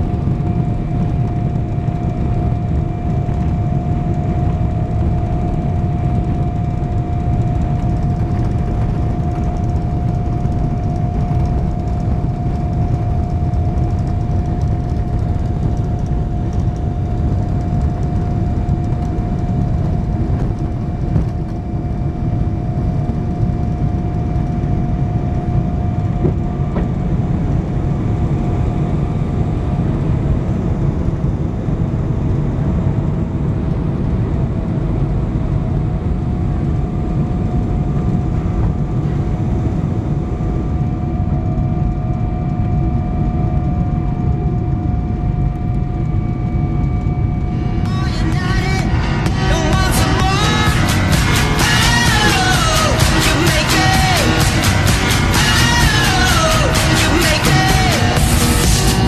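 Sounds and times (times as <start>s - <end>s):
airplane cabin low rumble: 0.0s - 59.0s
engine whine tones: 0.0s - 59.0s.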